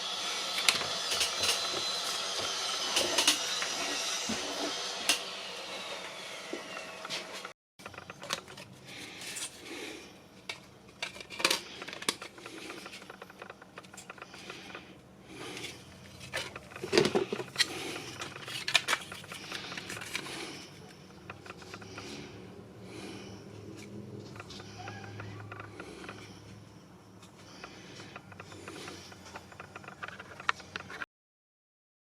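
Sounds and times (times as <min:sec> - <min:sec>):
small tools clicking and scraping: 0:00.5 - 0:05.3, 0:06.6 - 0:31.0.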